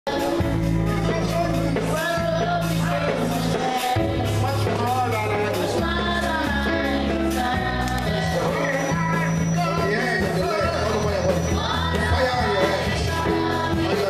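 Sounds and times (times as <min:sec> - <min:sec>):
music with singing and beat: 0:00.1 - 0:14.0.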